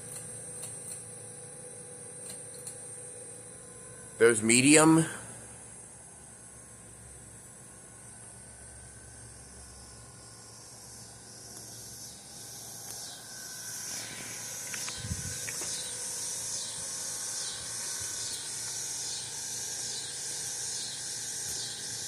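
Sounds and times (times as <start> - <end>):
ceiling fan air hiss: 0.0 - 22.0.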